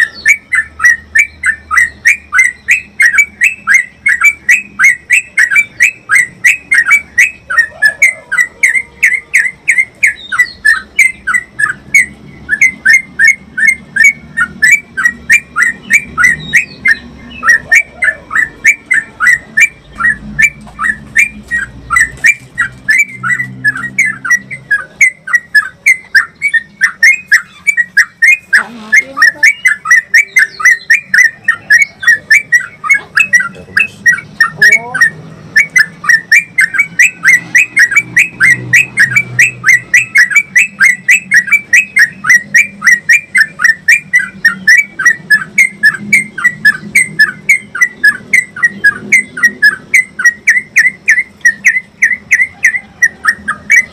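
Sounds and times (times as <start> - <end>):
bird rapid chattering call: 0.0 - 53.9.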